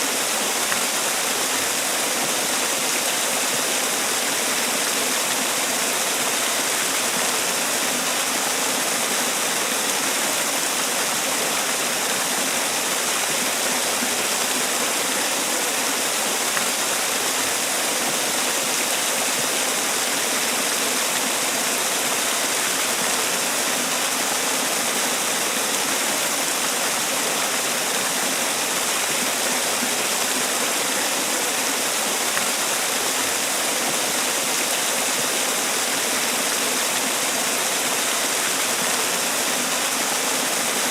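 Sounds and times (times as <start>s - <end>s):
waterfall pouring and splashing: 0.0s - 40.9s.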